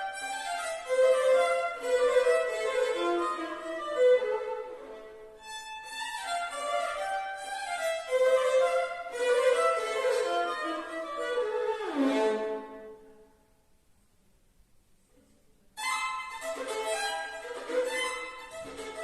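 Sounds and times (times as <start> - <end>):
violin melody: 0.0 - 13.4, 15.8 - 19.0.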